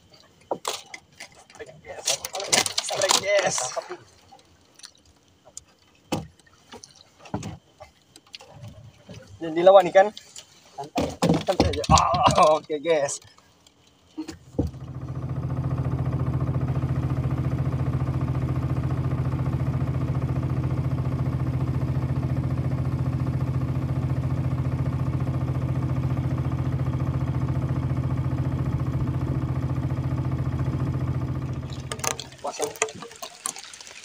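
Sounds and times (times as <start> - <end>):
boat motor running: 0.0 - 10.3, 10.9 - 33.6.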